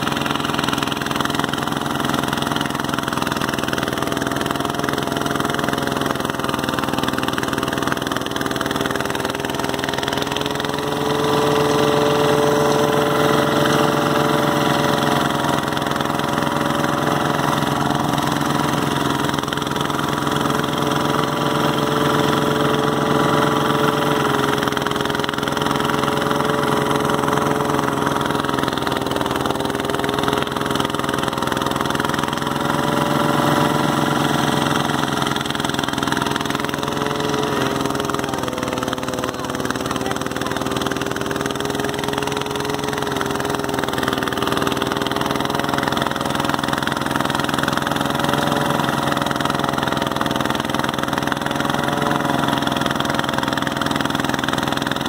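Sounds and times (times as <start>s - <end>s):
rice thresher running: 0.0s - 55.0s.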